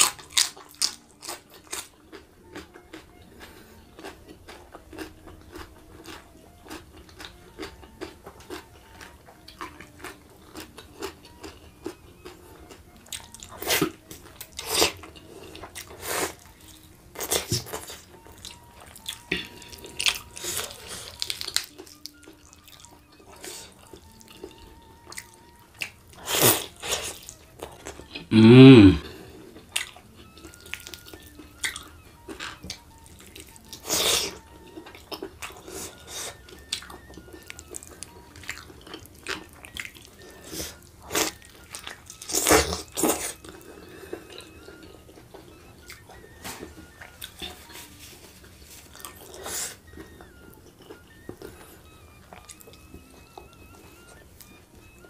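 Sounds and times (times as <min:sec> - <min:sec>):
wet chewing and lip smacks: 0:00.0 - 0:28.3, 0:29.5 - 0:55.0.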